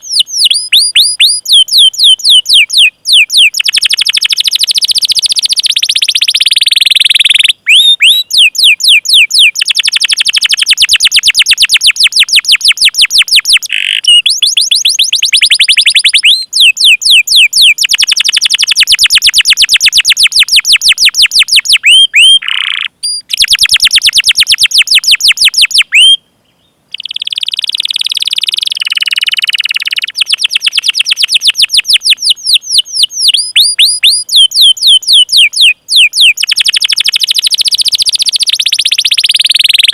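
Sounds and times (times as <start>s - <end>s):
canary singing chirps and trills: 0.0s - 39.9s.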